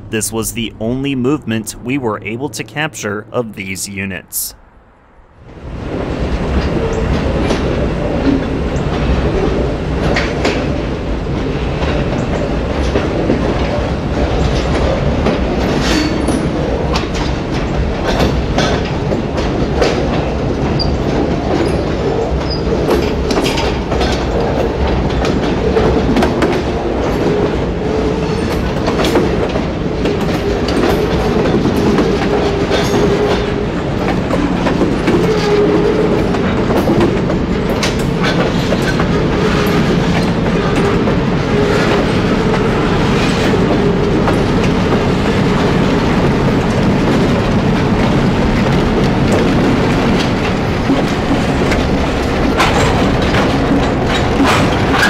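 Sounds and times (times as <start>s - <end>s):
wheels clicking on track: 6.4s - 55.0s.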